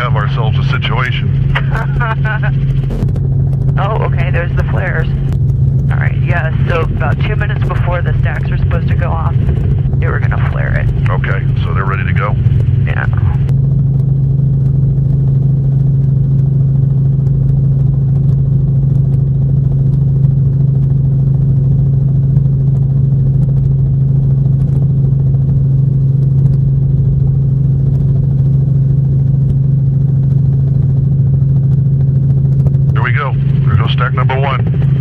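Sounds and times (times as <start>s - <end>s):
aircraft cabin drone: 0.0s - 35.0s.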